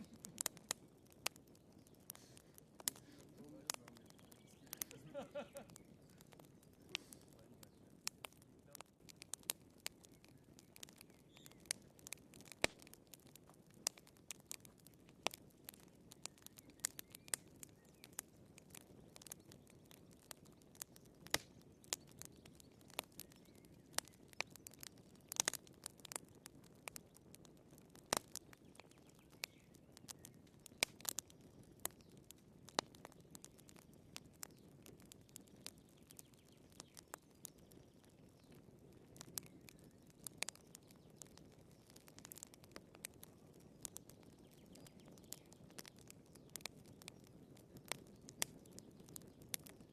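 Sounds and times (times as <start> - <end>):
low steady hiss of fire: 0.0 - 49.9
wood fire crackling: 0.0 - 49.9.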